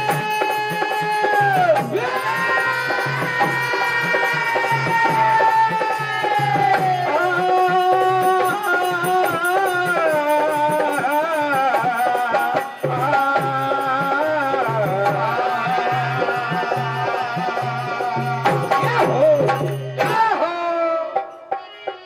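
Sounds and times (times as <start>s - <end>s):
hand drum beat: 0.0s - 22.0s
men singing folk song: 1.0s - 22.0s.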